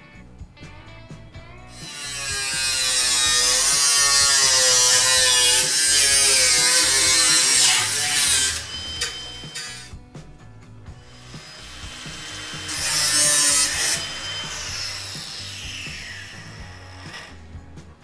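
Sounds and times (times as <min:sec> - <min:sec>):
angle grinder cutting sheet steel: 0:01.7 - 0:10.0, 0:11.1 - 0:17.5.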